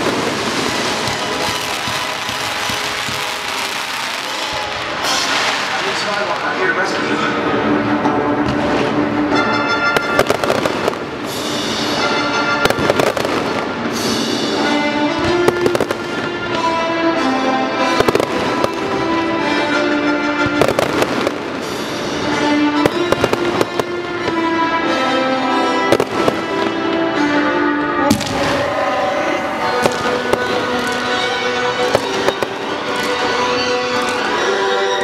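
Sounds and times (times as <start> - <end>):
fireworks bangs: 0.0 - 7.1, 9.8 - 16.8, 17.8 - 19.7, 20.3 - 24.6, 25.8 - 27.3, 28.0 - 34.6
music with long held notes: 0.0 - 35.0.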